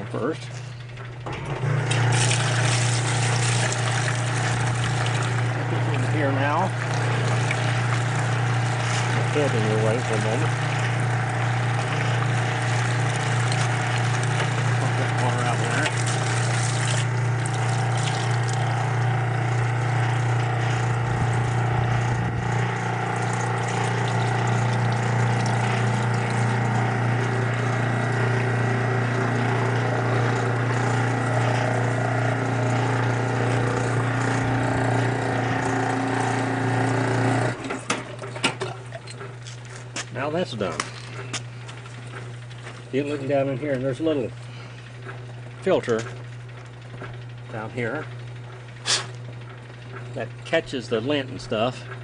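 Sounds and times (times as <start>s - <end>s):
washing machine pump humming: 0.0s - 52.0s.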